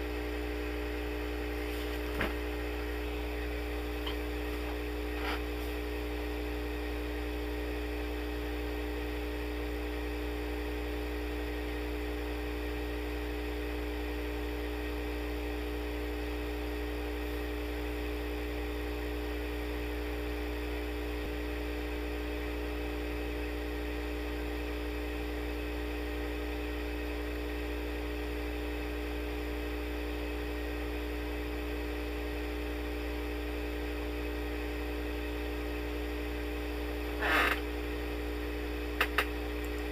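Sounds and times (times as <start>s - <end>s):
electric hum with high tones: 0.0s - 39.9s.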